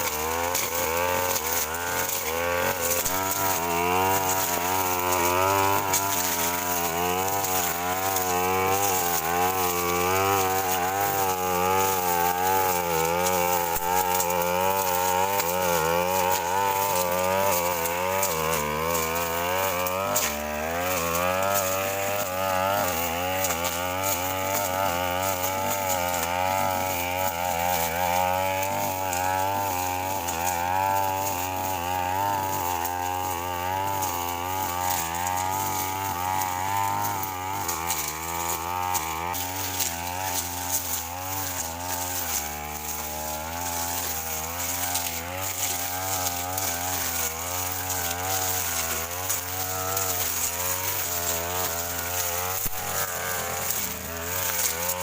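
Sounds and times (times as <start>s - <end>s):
brush cutter engine high revs: 0.0s - 55.0s.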